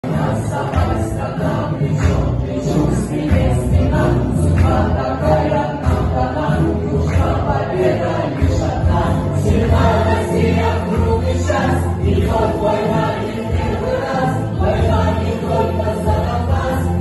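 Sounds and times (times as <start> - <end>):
man and choir singing: 0.0 - 17.0
musical accompaniment with bass: 0.0 - 17.0.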